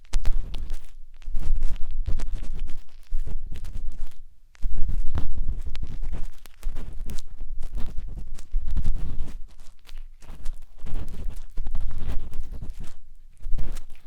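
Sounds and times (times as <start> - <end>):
matchstick scratching microphone: 0.0 - 14.0.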